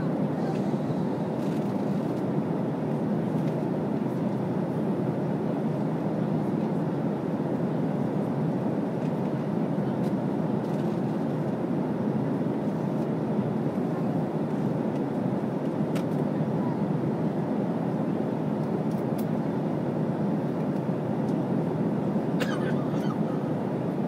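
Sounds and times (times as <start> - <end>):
airliner cabin noise: 0.0 - 24.0.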